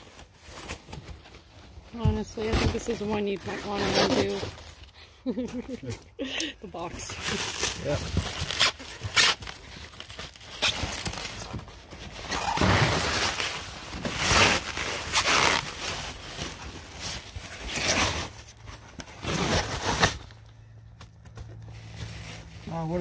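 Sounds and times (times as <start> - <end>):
plastic wrap and foam crinkling: 0.0 - 5.9, 6.6 - 23.0.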